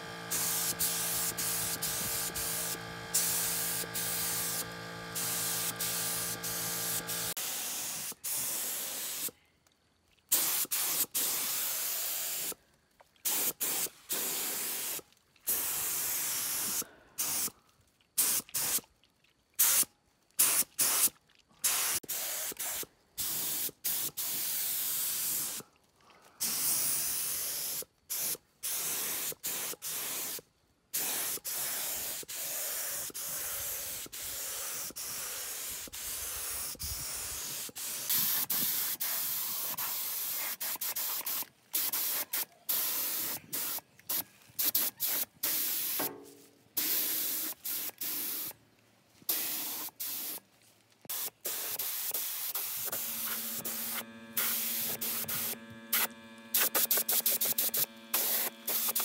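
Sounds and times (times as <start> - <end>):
paint spray gun hissing: 0.0 - 9.4, 10.3 - 12.6, 13.2 - 17.6, 18.2 - 18.8, 19.6 - 25.7, 26.4 - 30.4, 31.0 - 48.6, 49.3 - 50.4, 51.1 - 59.0.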